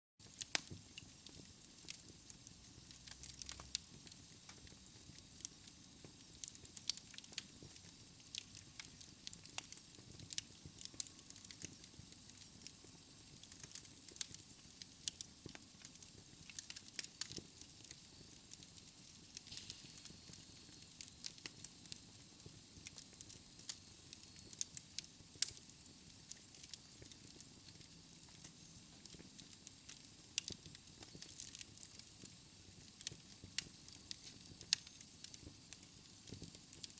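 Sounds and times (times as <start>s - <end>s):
fire crackling and popping: 0.2s - 36.9s
fire hissing and rumbling: 0.2s - 36.9s.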